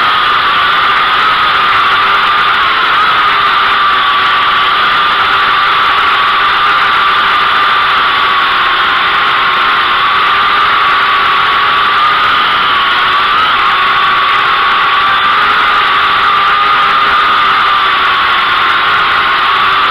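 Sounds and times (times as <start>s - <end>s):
drone motors whining: 0.0s - 19.9s.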